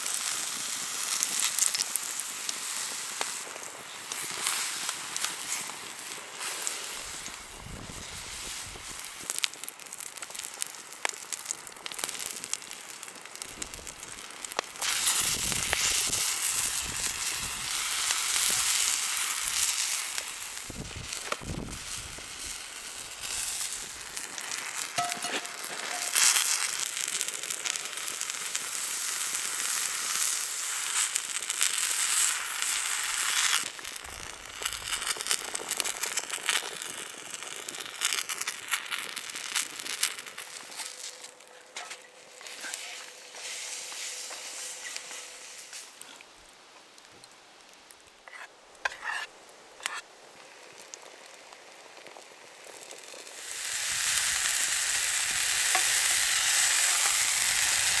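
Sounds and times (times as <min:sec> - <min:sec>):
batter sizzling in a frying pan: 0:00.0 - 0:58.0
wood fire crackling and popping: 0:00.0 - 0:58.0.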